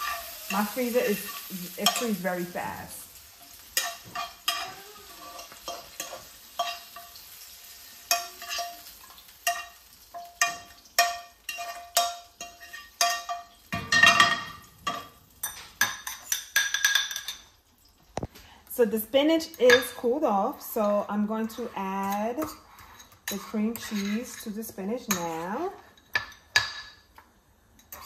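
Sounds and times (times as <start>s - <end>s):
utensil scraping a frying pan: 0.0s - 17.4s, 21.2s - 27.1s, 27.8s - 28.0s.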